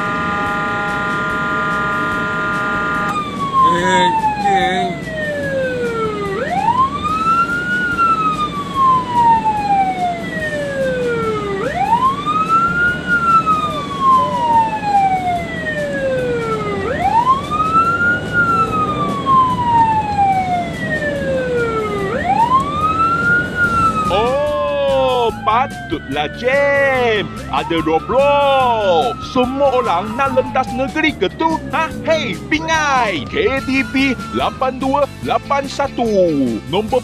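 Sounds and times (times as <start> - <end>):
ambulance siren wailing: 0.0 - 37.0
road traffic noise: 0.0 - 37.0.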